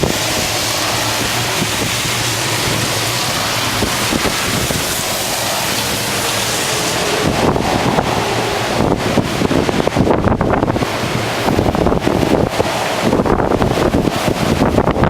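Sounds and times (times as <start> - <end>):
wind and rain rushing hiss: 0.0 - 15.0.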